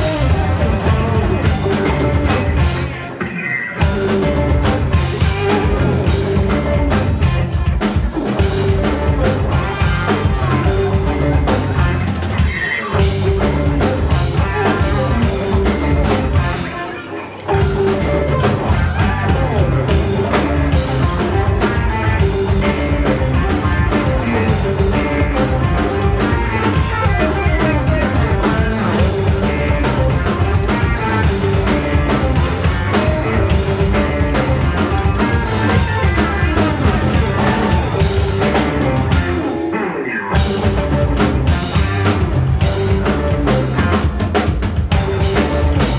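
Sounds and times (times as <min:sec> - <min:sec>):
drum kit: 0:00.0 - 0:45.9
guitar: 0:00.0 - 0:45.9
rock band playing live: 0:00.0 - 0:45.9.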